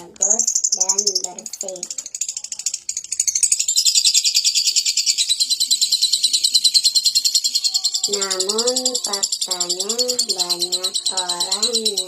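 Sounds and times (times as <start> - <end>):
lovebird chattering trill: 0.0 - 12.0.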